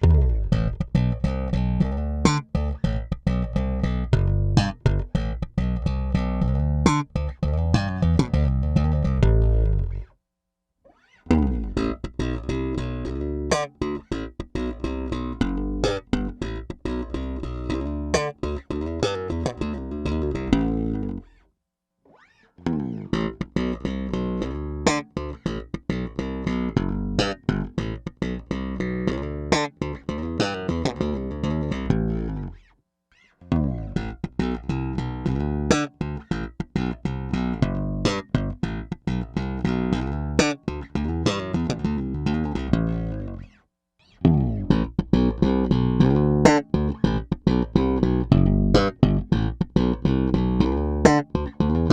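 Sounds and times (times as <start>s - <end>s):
slap bass guitar: 0.0s - 10.1s, 11.2s - 21.4s, 22.2s - 51.9s.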